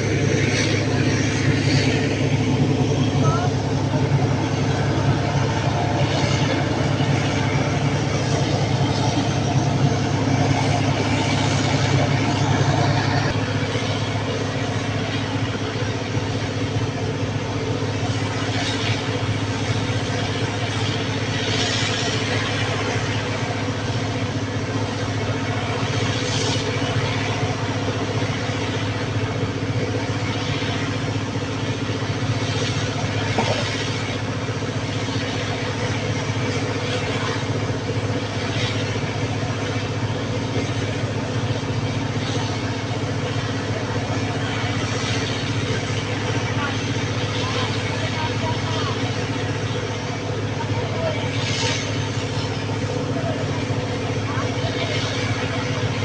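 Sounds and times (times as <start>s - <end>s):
large engine running: 0.0s - 56.0s.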